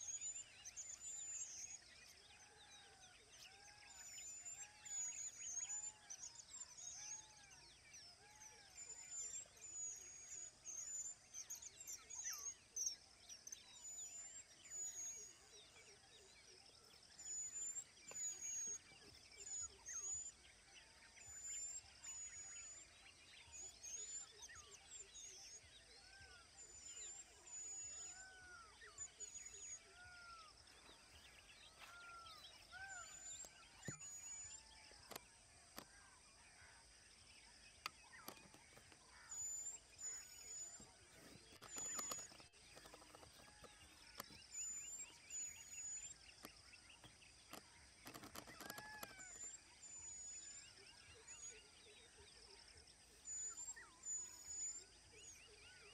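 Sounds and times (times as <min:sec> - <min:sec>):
faint birdsong: 0:00.0 - 0:55.9.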